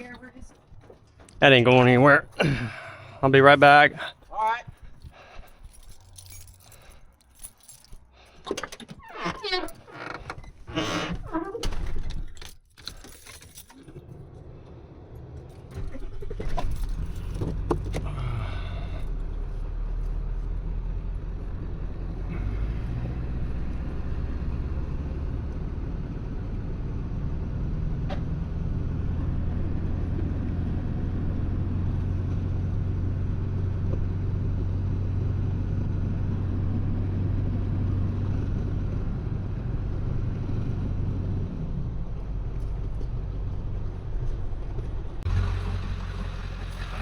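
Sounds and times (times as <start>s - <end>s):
truck engine and road rumble: 0.0s - 47.0s.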